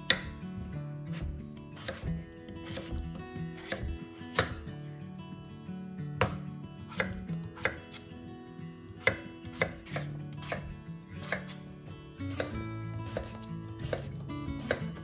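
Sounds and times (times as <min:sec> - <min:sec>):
knife cutting on cutting board: 0:00.0 - 0:04.7, 0:06.2 - 0:08.1, 0:09.0 - 0:11.7, 0:12.3 - 0:15.0.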